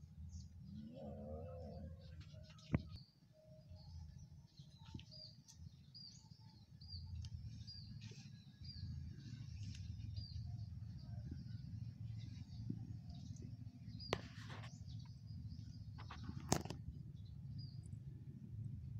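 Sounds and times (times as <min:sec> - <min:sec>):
steady low rumble: 0:00.0 - 0:18.9
small bird chirping: 0:00.3 - 0:18.0.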